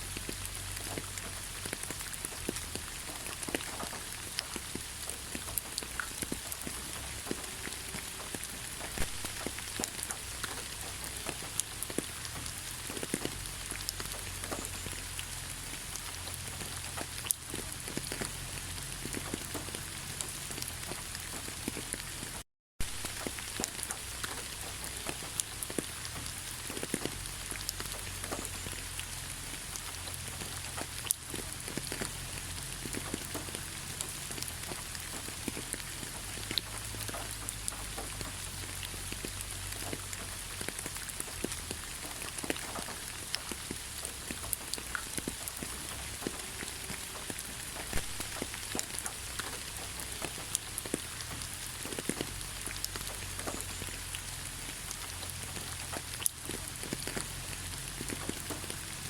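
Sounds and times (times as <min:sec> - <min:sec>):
rain hissing: 0:00.0 - 0:59.0
raindrops tapping: 0:00.0 - 0:59.0.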